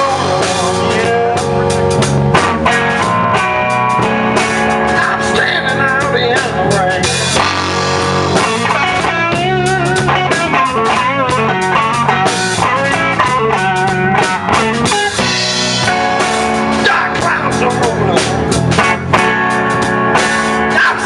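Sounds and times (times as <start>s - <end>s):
blues band playing: 0.0s - 21.0s
electric guitar lead with bent notes: 0.0s - 21.0s.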